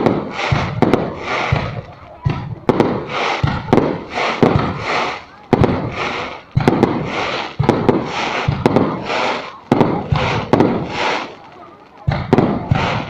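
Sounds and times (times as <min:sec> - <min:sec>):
fireworks banging and crackling: 0:00.0 - 0:13.0.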